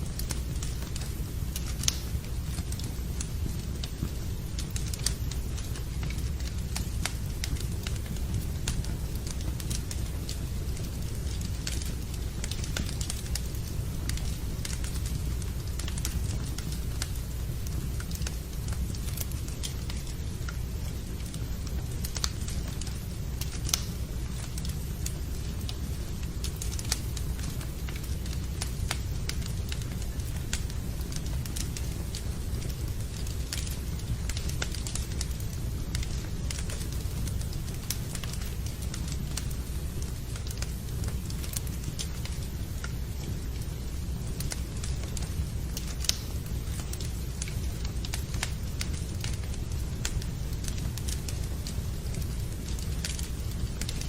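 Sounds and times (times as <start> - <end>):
rain: 0.0 - 54.0
wood fire crackling: 0.0 - 54.0.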